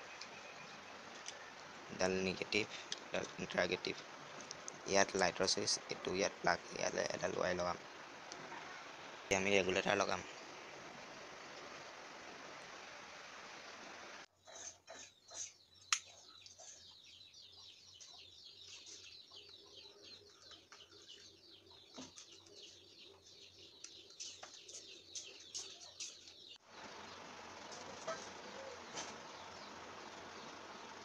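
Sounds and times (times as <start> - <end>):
small birds twittering: 0.0 - 10.5, 14.4 - 31.0.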